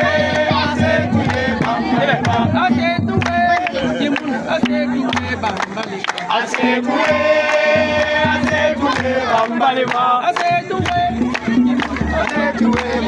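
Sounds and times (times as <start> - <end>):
drum beat and bass: 0.0 - 13.0
voices singing held notes: 0.0 - 13.0.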